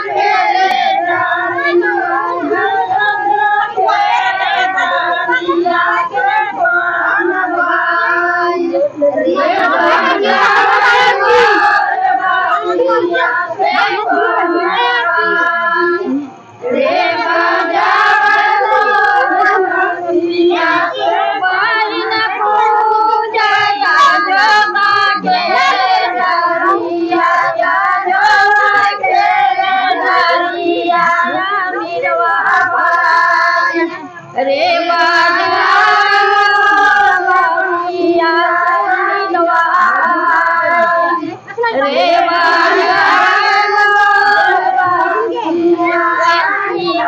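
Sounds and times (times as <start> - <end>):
girls and women singing together: 0.0 - 47.0.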